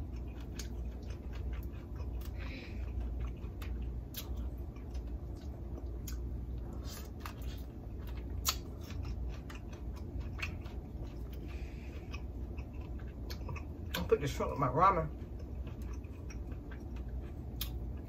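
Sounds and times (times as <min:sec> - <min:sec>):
person chewing with wet clicks: 0:00.0 - 0:18.0.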